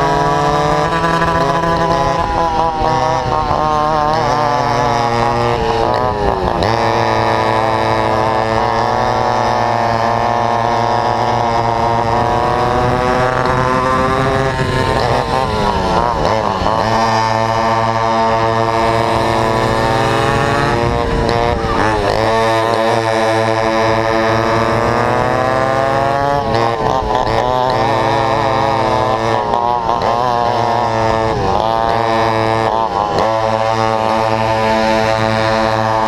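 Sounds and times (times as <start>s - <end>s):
another kart engine: 0.0s - 36.0s
go-kart engine at racing revs: 0.0s - 36.0s.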